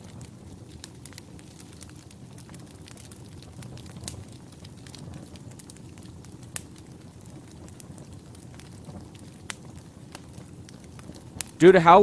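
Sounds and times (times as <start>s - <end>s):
sharp pops of fire: 0.0s - 12.0s
wood fire crackling: 0.0s - 12.0s.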